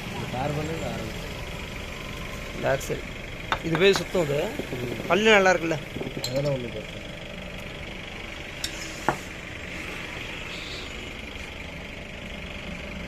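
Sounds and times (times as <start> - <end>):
engine and traffic noise: 0.0 - 13.0.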